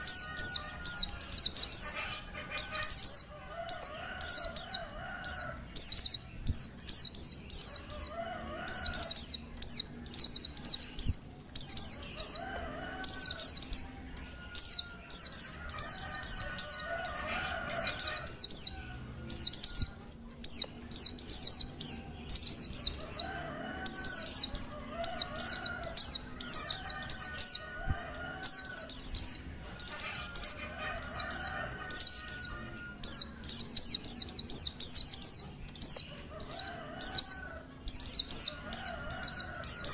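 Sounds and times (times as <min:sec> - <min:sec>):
bird calling high downward notes: 0:00.0 - 0:39.9.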